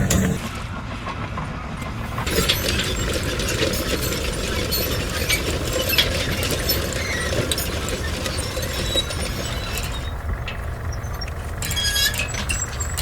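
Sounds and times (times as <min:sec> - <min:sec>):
low mechanical rumble: 0:00.0 - 0:00.8, 0:02.1 - 0:13.0.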